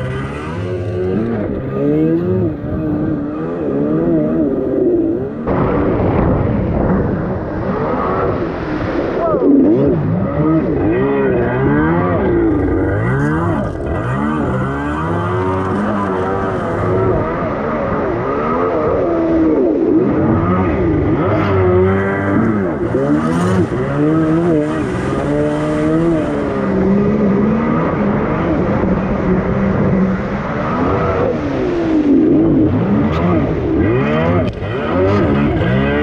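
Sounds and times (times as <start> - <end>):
jet ski engine running: 0.0 - 36.0.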